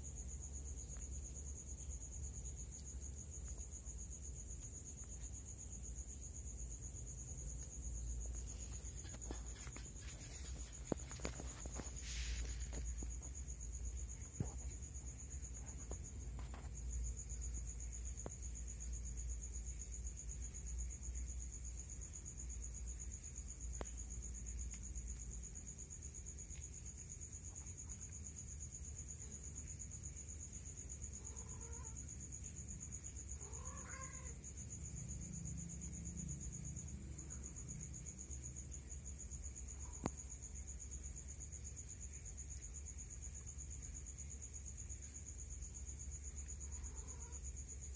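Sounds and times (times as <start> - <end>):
cricket trilling: 0.0 - 47.9.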